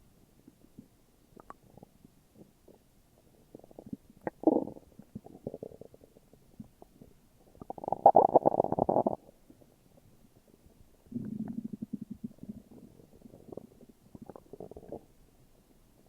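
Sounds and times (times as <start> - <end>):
stomach growling and gurgling: 0.6 - 9.8, 11.0 - 15.2.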